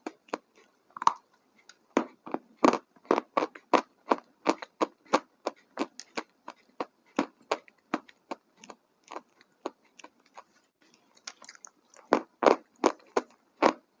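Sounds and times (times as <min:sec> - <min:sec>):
person chewing crunchy food: 0:00.0 - 0:13.9.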